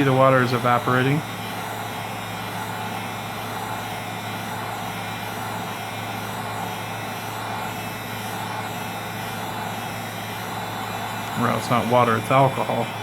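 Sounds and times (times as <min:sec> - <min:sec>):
air blowing: 0:00.0 - 0:13.0
heat gun humming: 0:00.0 - 0:13.0.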